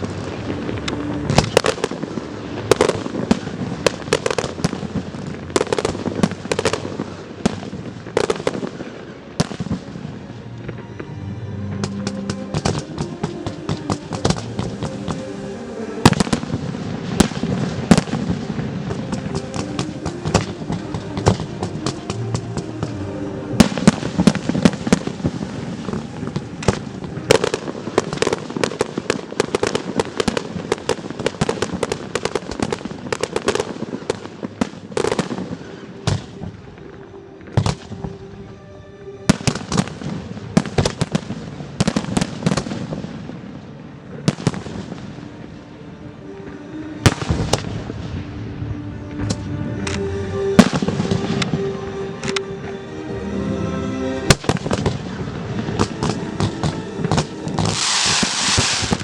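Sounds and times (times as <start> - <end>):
fireworks bangs and crackles: 0.0 - 11.1, 11.7 - 38.2, 39.3 - 45.7, 46.4 - 48.2, 50.6 - 51.6, 54.3 - 59.0.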